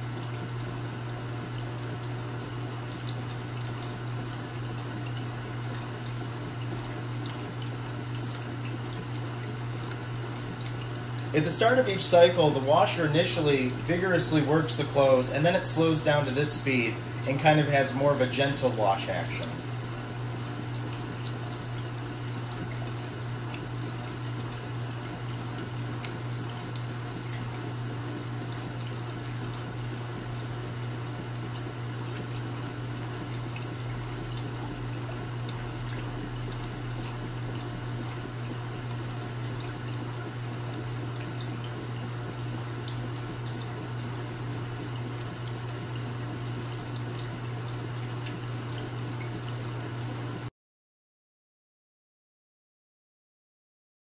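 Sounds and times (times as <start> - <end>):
low motor hum: 0.0 - 50.5
water sloshing in washing machine: 0.0 - 50.5.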